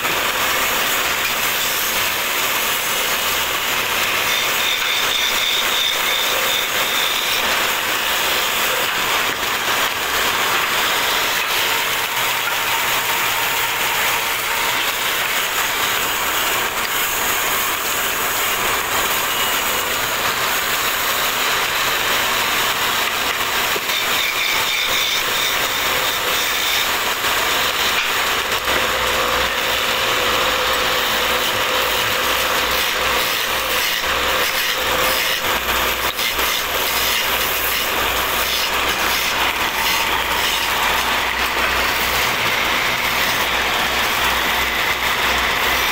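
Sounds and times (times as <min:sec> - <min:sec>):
wood lathe turning: 0:00.0 - 0:45.9.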